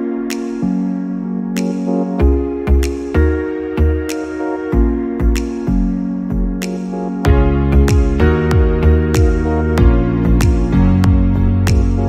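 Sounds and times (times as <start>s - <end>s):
electronic keyboard chords: 0.0s - 12.0s.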